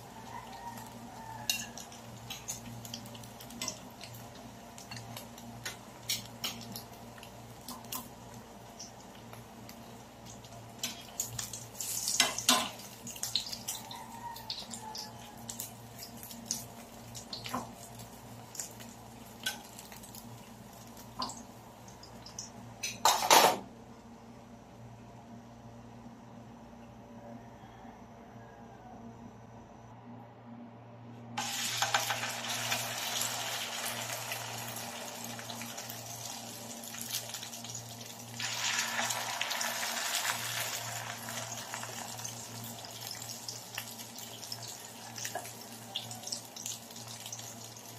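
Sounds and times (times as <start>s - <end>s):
frying oil crackling: 0.0s - 23.6s, 31.4s - 47.9s.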